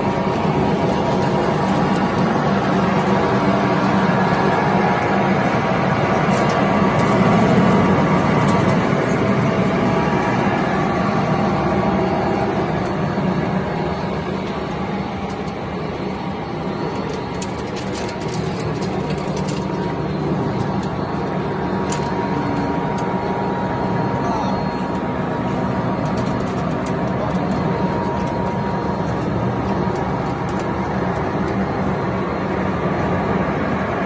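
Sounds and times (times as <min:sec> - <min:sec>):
shredder machine drone: 0:00.0 - 0:34.0.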